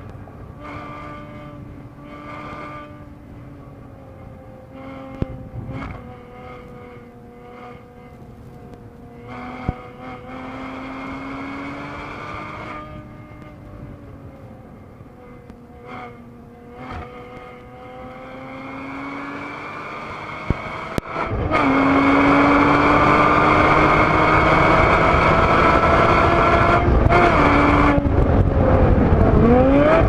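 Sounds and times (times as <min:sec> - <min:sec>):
car engine revving: 0:00.0 - 0:30.0
road noise: 0:00.0 - 0:30.0.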